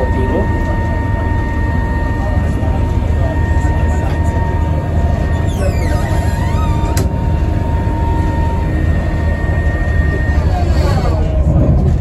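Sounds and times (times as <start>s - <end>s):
train rumble with whine: 0.0s - 12.0s.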